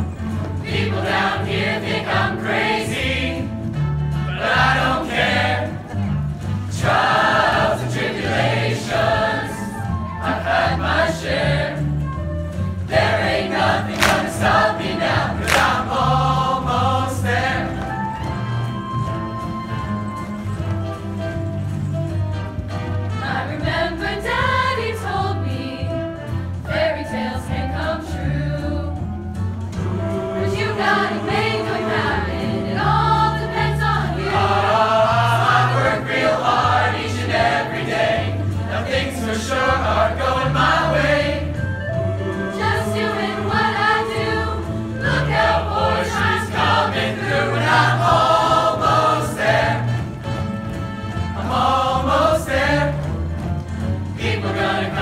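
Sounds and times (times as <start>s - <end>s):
instrumental accompaniment with bass: 0.0s - 55.0s
mixed-voice chorus singing: 0.1s - 12.2s, 12.8s - 18.2s, 23.1s - 29.0s, 29.7s - 55.0s.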